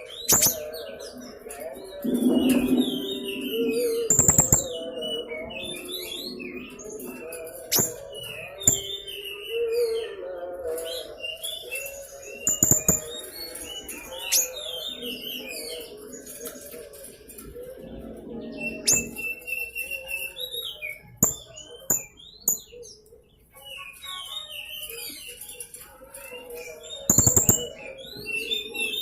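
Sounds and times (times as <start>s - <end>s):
parrot chirping and twittering: 0.0s - 29.0s.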